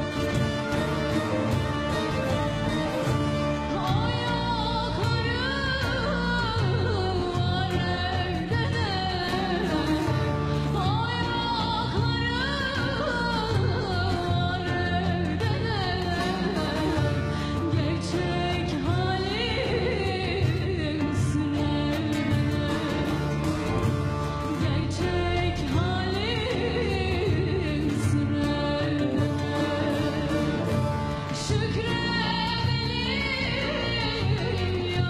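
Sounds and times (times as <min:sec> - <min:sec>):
frame drums: 0:00.0 - 0:35.0
long-necked lute: 0:00.0 - 0:35.0
woman singing: 0:00.0 - 0:35.0.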